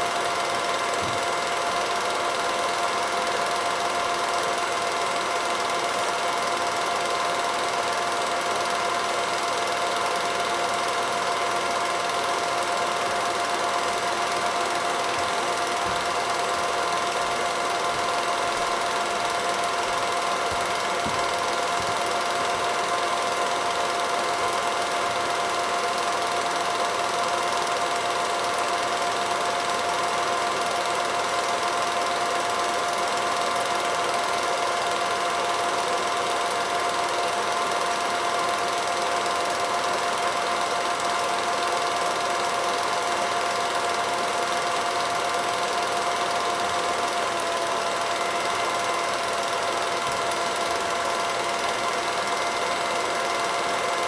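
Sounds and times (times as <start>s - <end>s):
film projector whirring and clattering: 0.0s - 54.0s.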